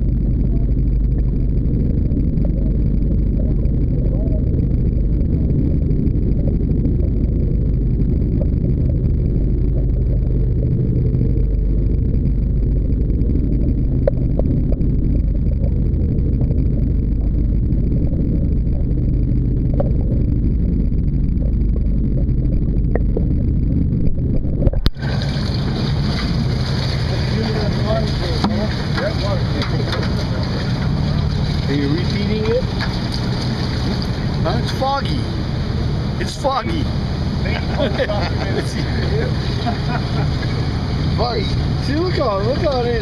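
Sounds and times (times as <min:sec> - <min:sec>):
air noise: 0:00.0 - 0:43.0
muffled underwater rumble: 0:00.0 - 0:43.0.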